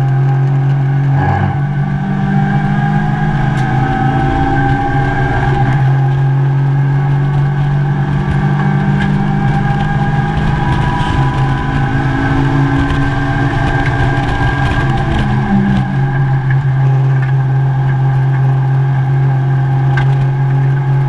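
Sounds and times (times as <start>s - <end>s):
race car engine under power: 0.0s - 21.0s
road and wind noise: 0.0s - 21.0s.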